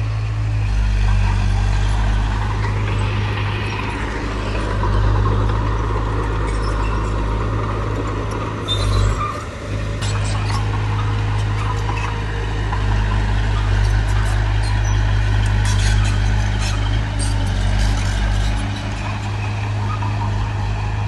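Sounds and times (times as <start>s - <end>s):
diesel machinery rumbling: 0.0s - 21.0s.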